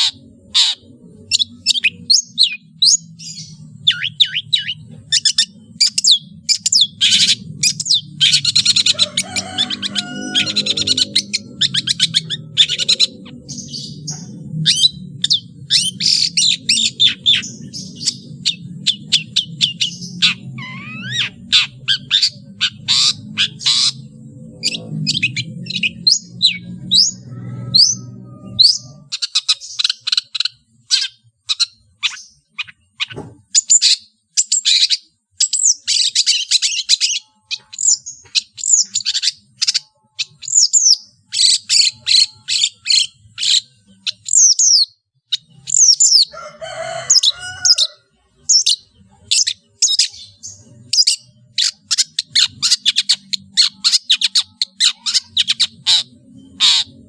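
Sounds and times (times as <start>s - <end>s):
shrike singing chirps and whistles: 0.0s - 47.8s.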